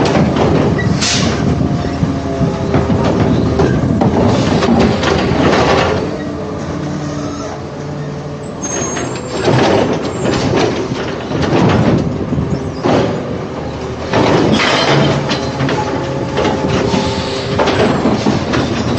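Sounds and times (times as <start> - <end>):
garbage truck engine under load: 0.0 - 18.9
machinery clanking and rattling: 0.0 - 18.9.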